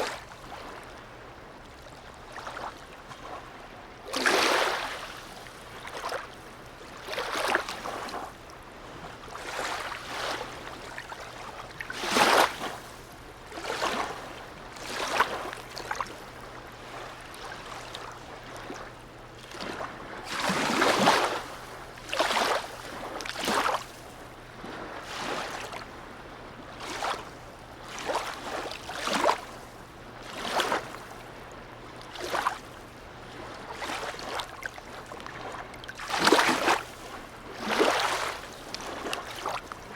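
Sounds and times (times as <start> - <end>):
water lapping and splashing: 0.0 - 39.9.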